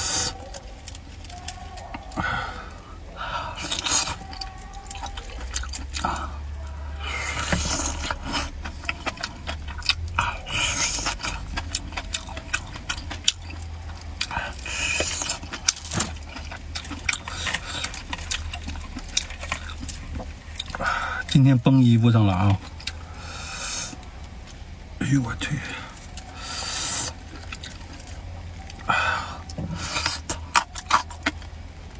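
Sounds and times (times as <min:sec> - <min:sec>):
wet chewing and slurping: 0:00.0 - 0:21.5, 0:22.2 - 0:31.9
low steady hum: 0:00.0 - 0:31.9.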